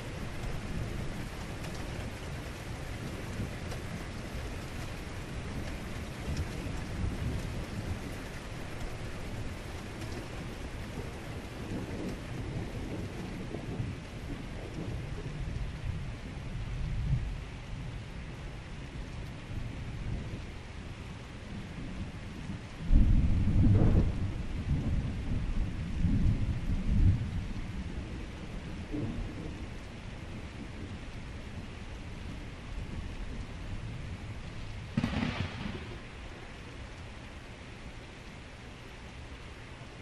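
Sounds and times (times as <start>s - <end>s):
heavy rain hissing: 0.0s - 16.1s, 20.1s - 40.0s
thunder rumbling: 0.0s - 17.4s, 21.5s - 38.4s.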